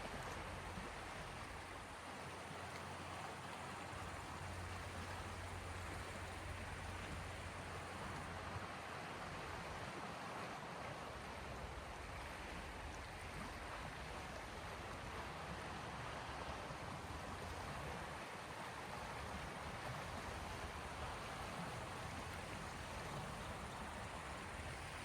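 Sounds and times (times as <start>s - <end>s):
small sea waves washing on shore: 0.0s - 25.0s.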